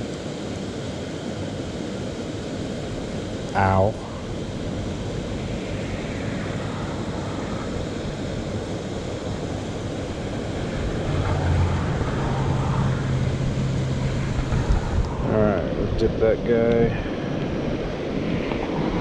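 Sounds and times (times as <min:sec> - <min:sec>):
low steady hum: 0:00.8 - 0:18.1
wind on microphone: 0:01.6 - 0:19.0.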